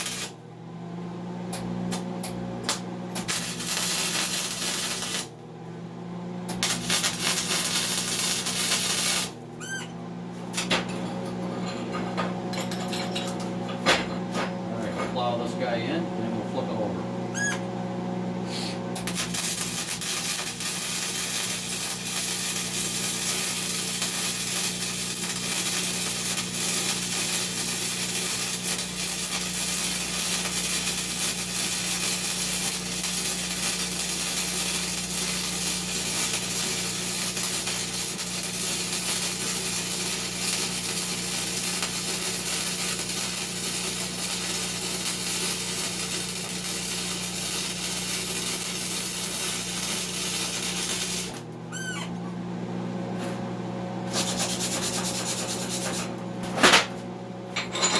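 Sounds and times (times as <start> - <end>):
welding arc crackling sizzle: 0.0 - 0.4, 1.5 - 14.4, 16.5 - 52.0, 54.0 - 57.0.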